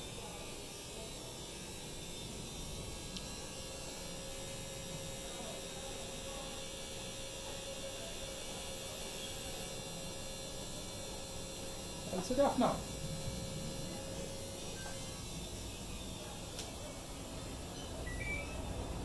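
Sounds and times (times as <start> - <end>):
washing machine spin hum: 0.0 - 19.0.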